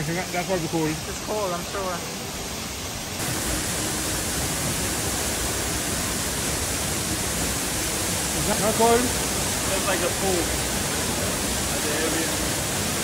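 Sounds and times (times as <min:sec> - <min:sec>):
waterfall rushing into pool: 0:00.0 - 0:13.0.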